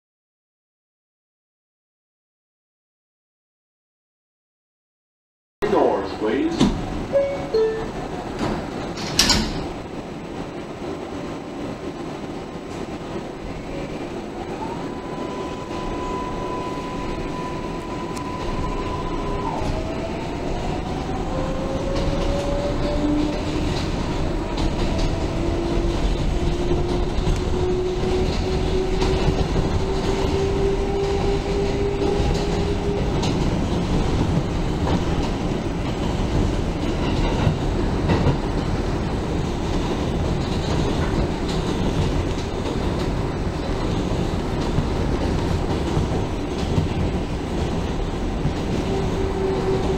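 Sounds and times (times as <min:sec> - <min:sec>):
wheels rumbling on track: 0:05.6 - 0:49.9
subway train propulsion whine: 0:05.7 - 0:49.9.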